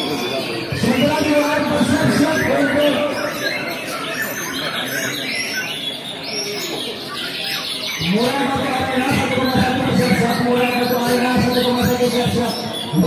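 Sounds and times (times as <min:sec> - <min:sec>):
murmur of people talking: 0:00.0 - 0:13.0
songbirds singing: 0:00.0 - 0:13.0.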